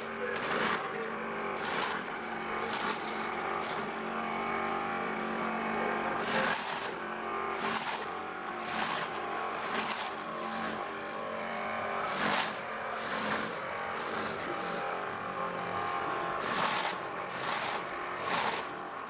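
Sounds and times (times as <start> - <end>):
corn kernels rasping and rattling: 0.0 - 4.0, 6.1 - 11.0, 11.9 - 15.6, 16.3 - 19.0
water-pump motor running: 0.0 - 19.0.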